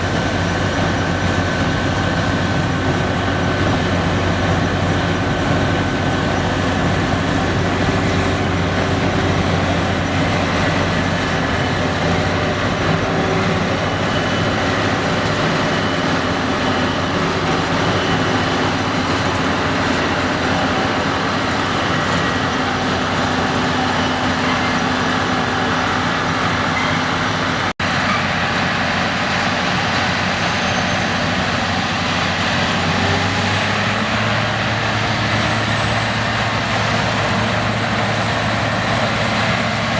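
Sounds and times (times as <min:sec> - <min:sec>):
combine harvester engine drone: 0:00.0 - 0:39.9
threshing machinery noise: 0:00.0 - 0:39.9.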